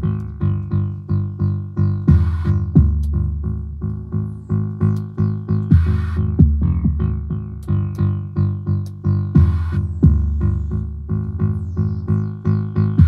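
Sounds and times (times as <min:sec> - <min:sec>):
electronic music loop: 0:00.0 - 0:13.0.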